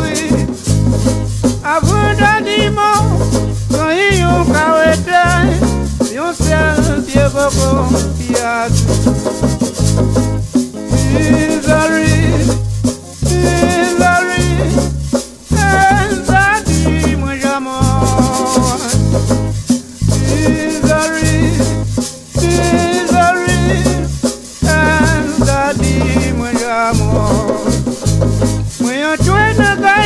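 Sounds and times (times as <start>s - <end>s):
shaker rattle: 0.0s - 30.0s
stepping bass line: 0.0s - 30.0s.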